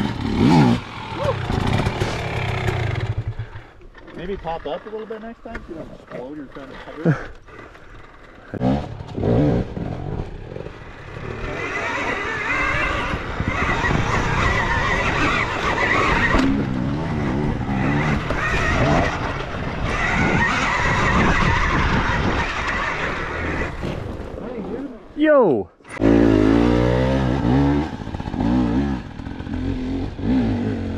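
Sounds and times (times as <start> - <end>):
dirt bike engine revving: 0.0 - 5.4, 6.1 - 24.8, 25.9 - 30.9.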